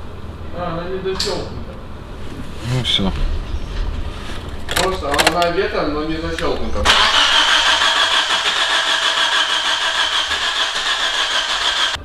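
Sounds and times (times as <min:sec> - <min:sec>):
starter motor cranking engine: 0:01.2 - 0:12.0.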